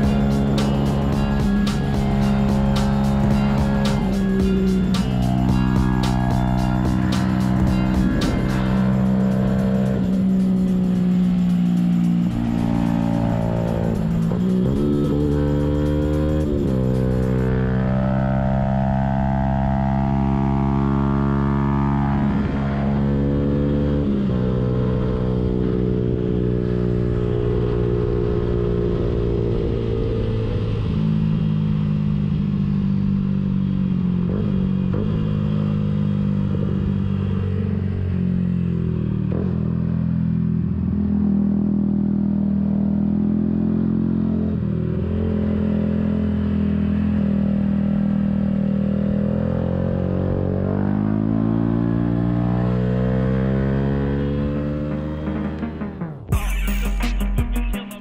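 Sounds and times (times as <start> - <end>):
motorcycle engine revving high: 0.0 - 57.4.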